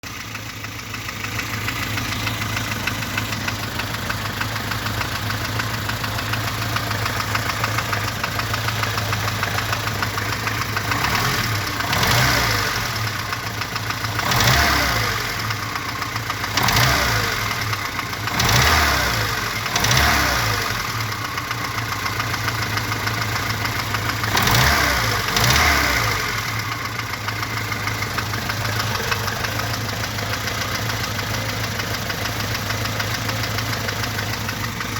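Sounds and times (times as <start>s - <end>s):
engine idling with rhythmic knock: 0.0s - 34.9s
engine revving: 6.8s - 34.9s.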